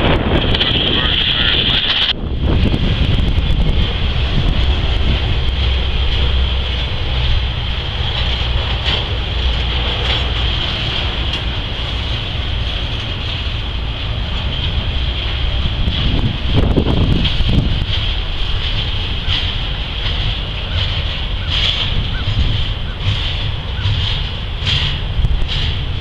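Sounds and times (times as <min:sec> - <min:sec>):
freight train rumbling past: 0:00.0 - 0:26.0.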